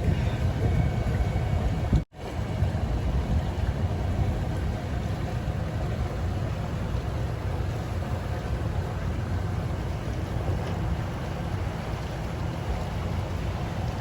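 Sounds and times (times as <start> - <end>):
motorboat engine rumble: 0.0 - 14.0.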